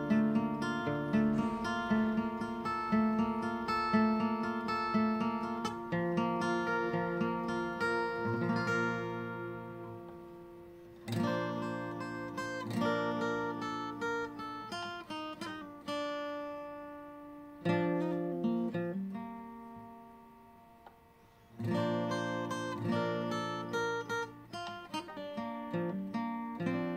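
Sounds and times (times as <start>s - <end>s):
acoustic guitar chords: 0.0s - 26.9s.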